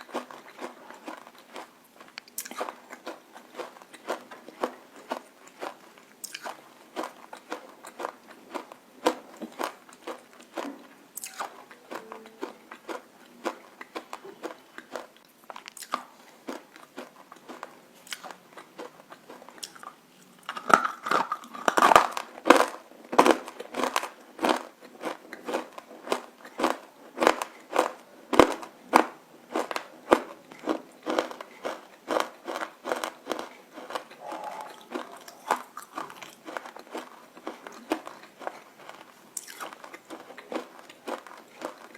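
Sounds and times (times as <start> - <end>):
crunchy food being chewed: 0.0 - 41.9.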